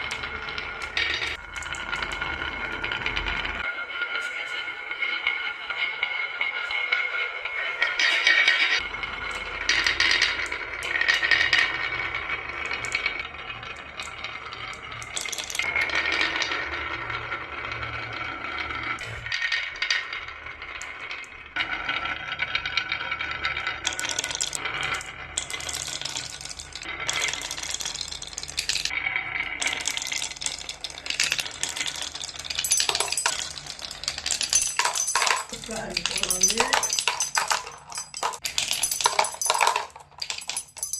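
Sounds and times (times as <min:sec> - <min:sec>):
glass marbles clattering: 0:00.0 - 0:16.9, 0:19.0 - 0:40.9.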